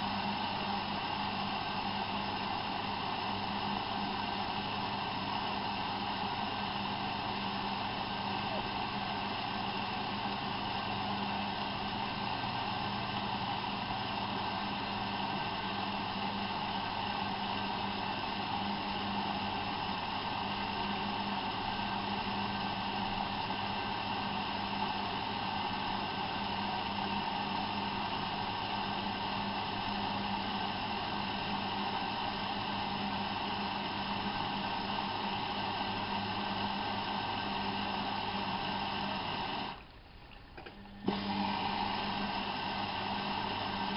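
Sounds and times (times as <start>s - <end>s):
washing machine motor hum: 0.0s - 43.9s.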